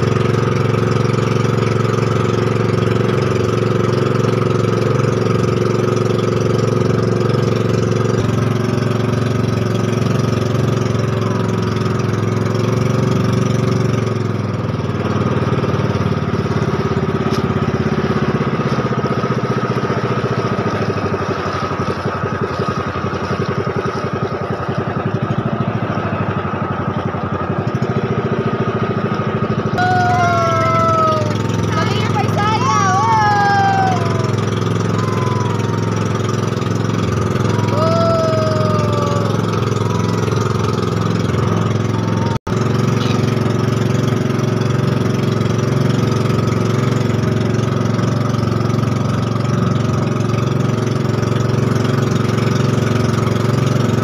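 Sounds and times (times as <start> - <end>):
boat engine running: 0.0 - 54.0
water rushing along hull: 0.0 - 54.0.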